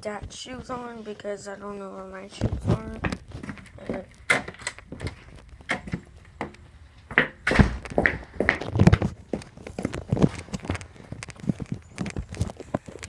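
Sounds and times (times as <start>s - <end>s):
thuds of oversized shoes stepping: 2.5s - 13.0s.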